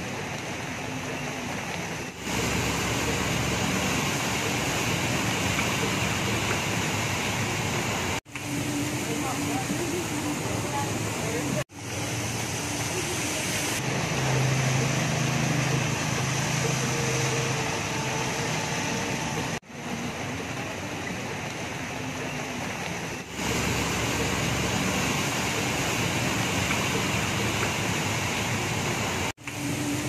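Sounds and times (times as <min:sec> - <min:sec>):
hiss of moving water: 0:02.2 - 0:19.6, 0:23.3 - 0:30.0.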